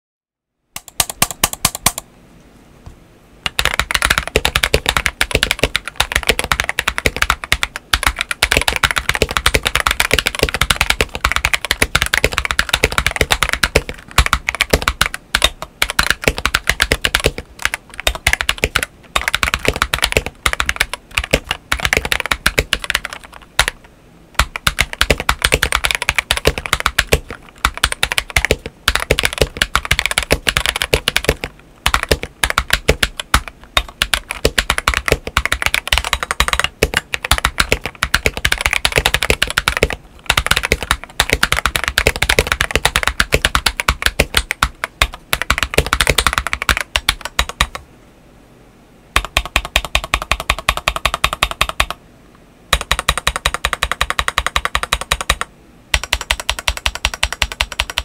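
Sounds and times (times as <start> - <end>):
mechanical keyboard typing: 0.8 - 2.1, 3.4 - 47.8, 49.2 - 52.0, 52.7 - 58.0.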